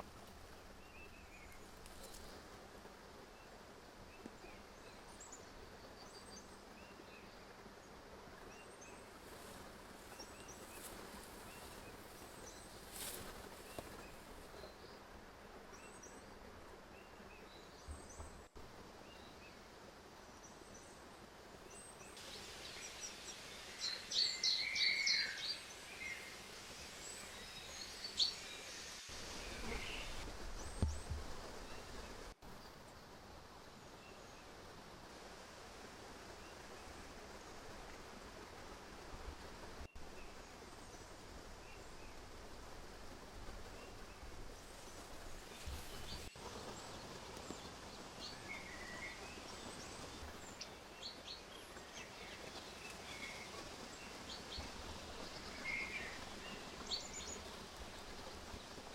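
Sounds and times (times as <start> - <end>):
faint steady hiss: 0.0 - 58.9.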